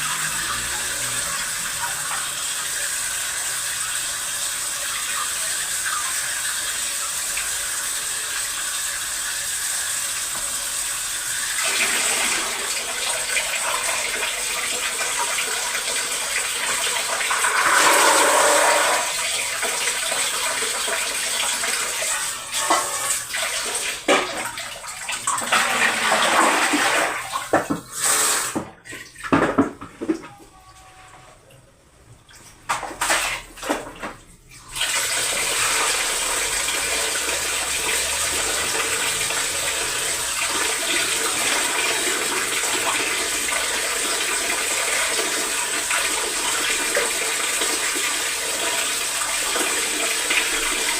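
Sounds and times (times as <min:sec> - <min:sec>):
tap water running into sink: 0:00.0 - 0:30.4, 0:32.3 - 0:50.9.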